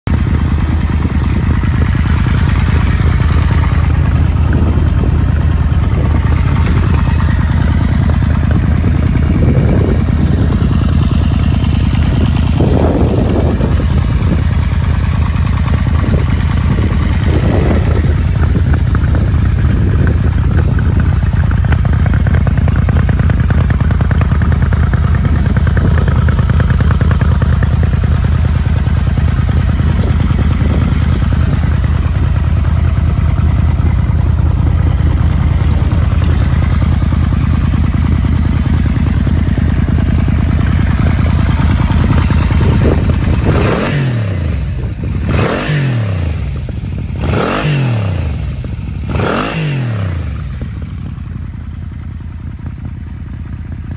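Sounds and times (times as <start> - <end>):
motorcycle engine idling: 0.0 - 53.9.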